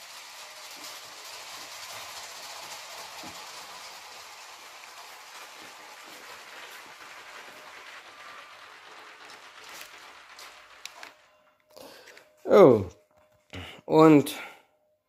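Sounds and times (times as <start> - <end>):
toy train motor whirring: 0.0 - 12.9.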